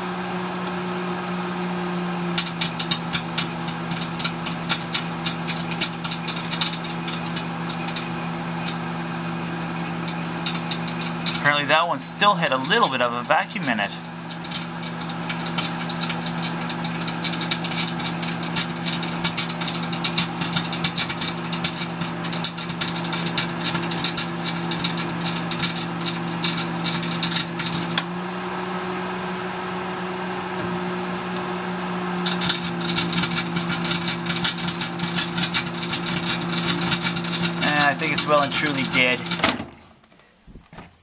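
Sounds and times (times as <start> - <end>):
microwave oven humming: 0.0 - 40.0.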